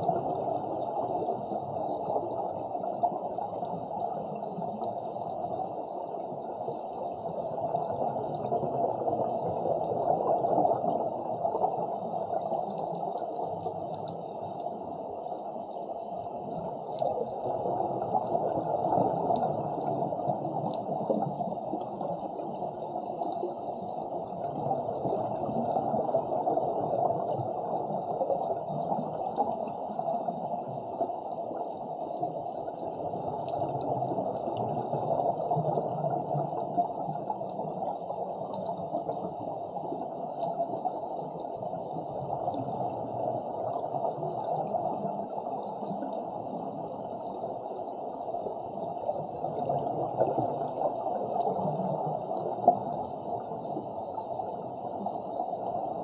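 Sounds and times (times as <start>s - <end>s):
scuba exhaust bubbles: 0.0s - 56.0s
underwater rush of water: 0.0s - 56.0s.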